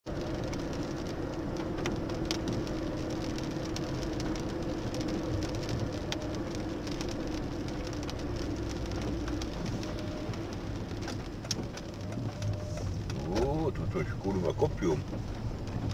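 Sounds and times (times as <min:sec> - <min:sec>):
engine and tyre drone: 0:00.1 - 0:15.9
raindrops ticking on windscreen: 0:00.1 - 0:15.9.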